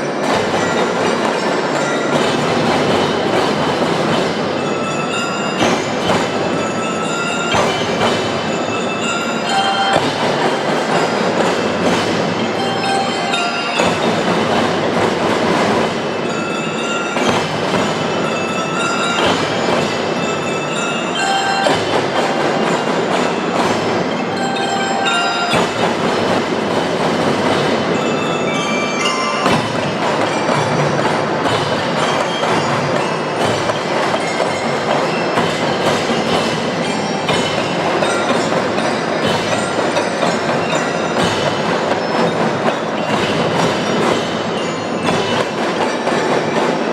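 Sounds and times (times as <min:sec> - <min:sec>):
glockenspiel melody: 0:00.0 - 0:46.9
marching drums: 0:00.0 - 0:46.9.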